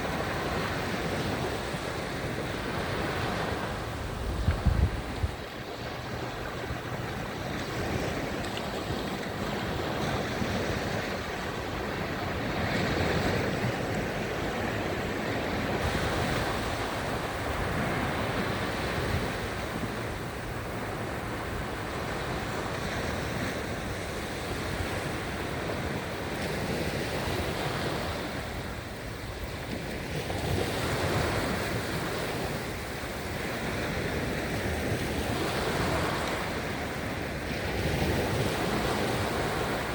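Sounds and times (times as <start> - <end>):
sea waves washing onto shore: 0.0 - 39.9
wind buffeting microphone: 0.0 - 39.9.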